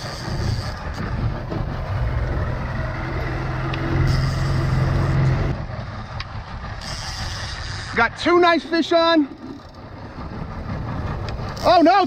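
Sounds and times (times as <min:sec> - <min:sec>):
outboard motor drone: 0:00.0 - 0:12.0
water rushing along hull: 0:00.0 - 0:12.0
wind: 0:00.0 - 0:12.0.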